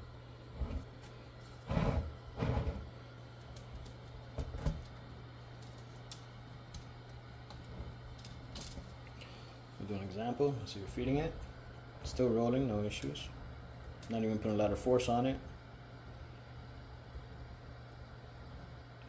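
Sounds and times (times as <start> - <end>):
filament dryer humming: 0.0 - 19.0.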